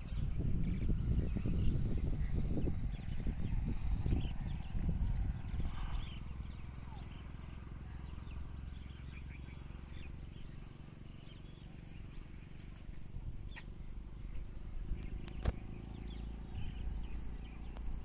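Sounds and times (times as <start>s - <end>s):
insect chirp: 0.0s - 18.0s
insects trilling: 0.0s - 18.0s
wind rumble on microphone: 0.0s - 18.0s.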